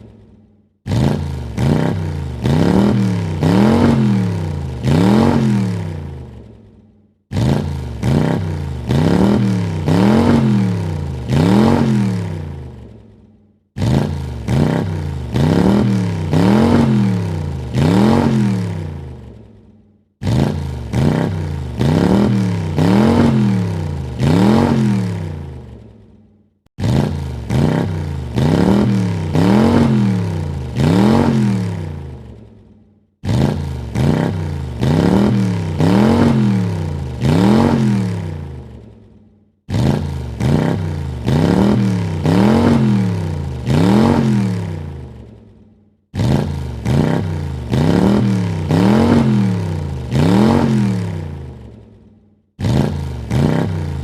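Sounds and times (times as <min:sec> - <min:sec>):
car engine revving: 0:00.8 - 0:06.6, 0:07.3 - 0:13.1, 0:13.8 - 0:19.6, 0:20.2 - 0:25.9, 0:26.8 - 0:32.5, 0:33.2 - 0:39.0, 0:39.7 - 0:45.4, 0:46.2 - 0:51.8, 0:52.6 - 0:54.0.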